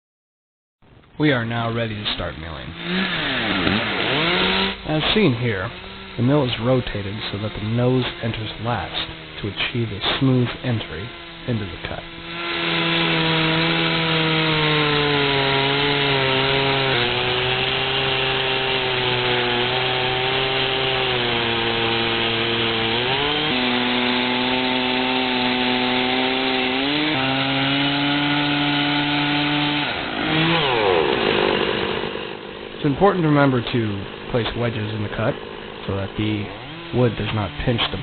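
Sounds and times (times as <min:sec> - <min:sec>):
chainsaw ripping through log: 0:01.6 - 0:38.0.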